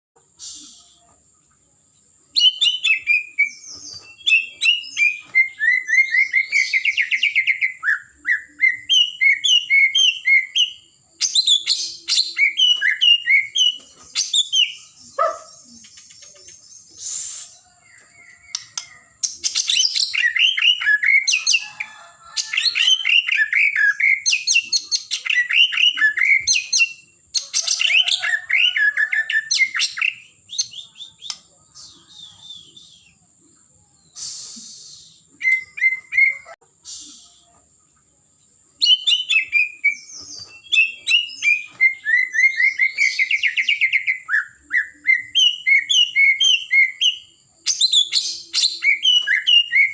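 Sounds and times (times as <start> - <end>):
bird singing whistles and trills: 0.4 - 1.2, 2.2 - 37.6, 38.8 - 49.9.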